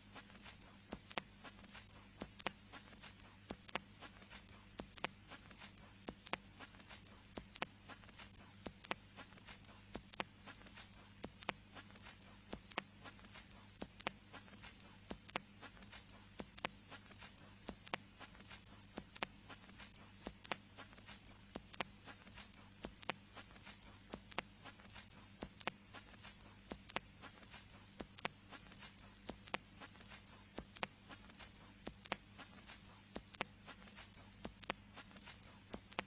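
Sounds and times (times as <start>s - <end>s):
vinyl record crackle: 0.0s - 36.0s
vinyl record clicks: 0.2s - 36.0s.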